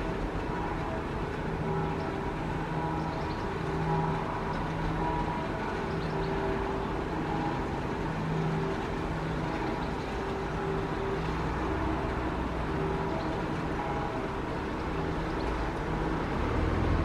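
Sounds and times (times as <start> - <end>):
siren rotor low hum: 0.0 - 17.0.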